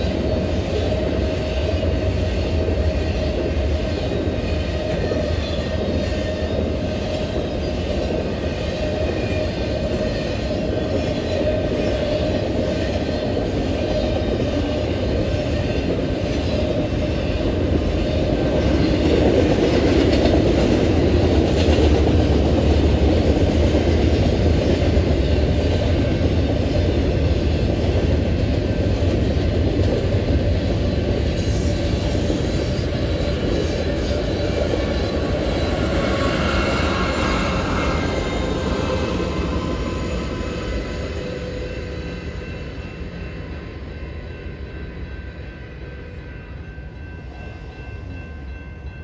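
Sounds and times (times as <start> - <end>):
diesel locomotive engine: 0.0 - 49.0
train wheels rumbling on rails: 0.0 - 49.0.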